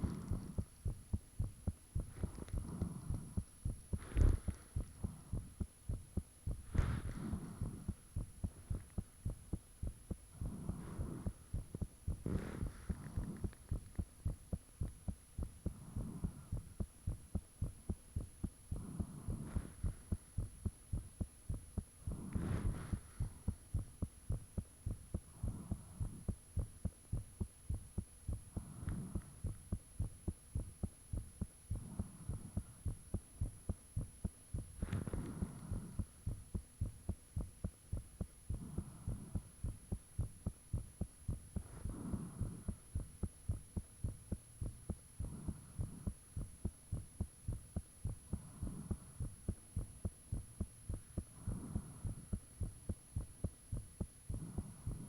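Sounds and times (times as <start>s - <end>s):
faint steady hum: 0.0s - 55.0s
heartbeat thumps: 0.0s - 55.0s.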